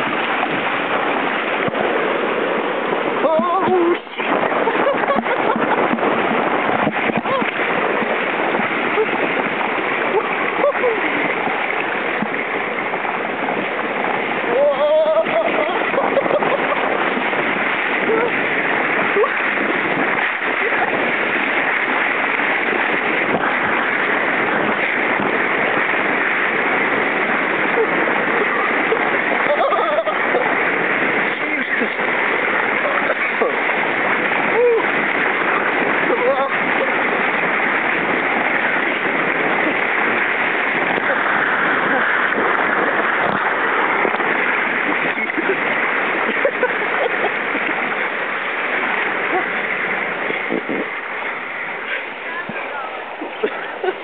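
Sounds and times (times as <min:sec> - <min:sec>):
water rushing down water slide: 0:00.0 - 0:54.0.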